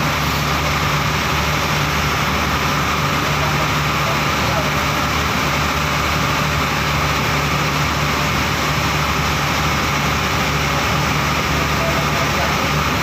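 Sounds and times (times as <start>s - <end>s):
boat engine running: 0.0s - 13.0s
water rushing along hull: 0.0s - 13.0s.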